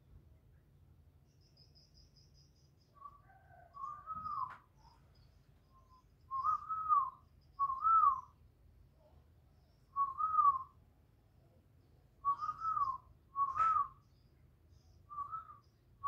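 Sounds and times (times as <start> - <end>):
faint high chirping: 1.2 - 10.8, 11.8 - 16.0.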